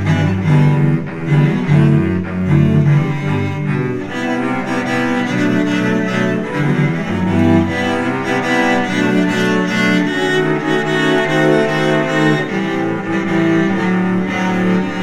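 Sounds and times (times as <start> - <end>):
cellos playing with bows: 0.0 - 15.0.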